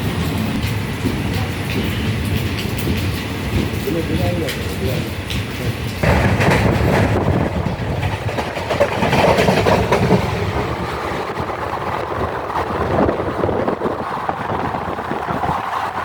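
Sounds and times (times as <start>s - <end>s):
passenger train carriage rumble: 0.0s - 16.0s
wheels clicking on rails: 0.0s - 16.0s.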